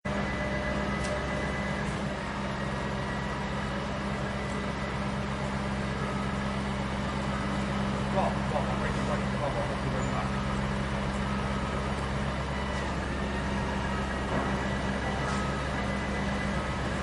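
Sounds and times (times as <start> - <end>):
machinery engine low drone: 0.0 - 17.0.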